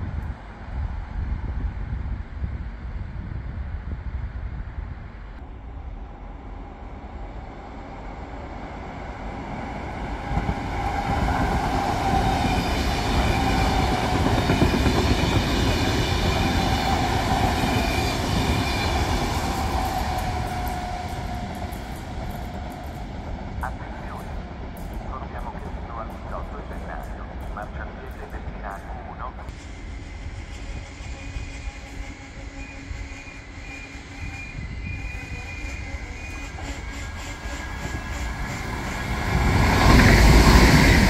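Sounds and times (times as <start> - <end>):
high-speed electric train passing: 0.0 - 41.0.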